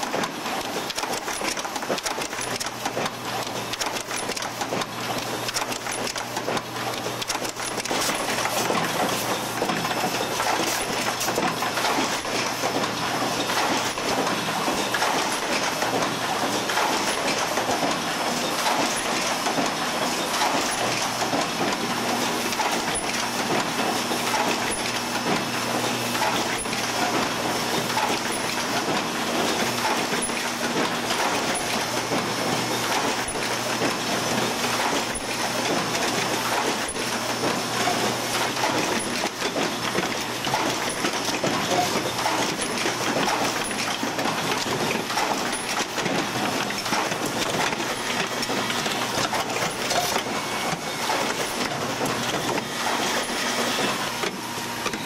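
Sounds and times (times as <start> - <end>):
machinery clattering: 0.0 - 55.0.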